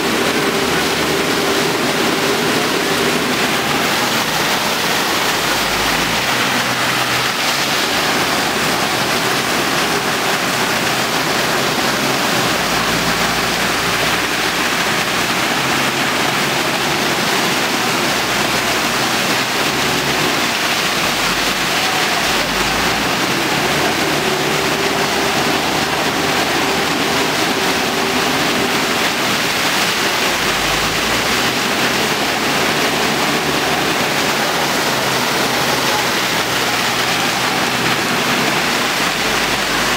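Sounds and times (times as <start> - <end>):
floodwater rushing: 0.0 - 39.9
heavy rain: 0.0 - 39.9.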